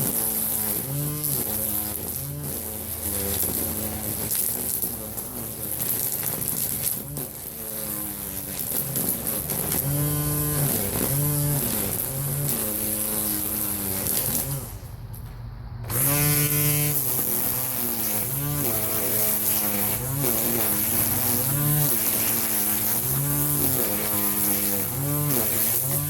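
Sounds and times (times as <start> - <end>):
string trimmer motor revving: 0.0 - 15.2, 15.8 - 26.0.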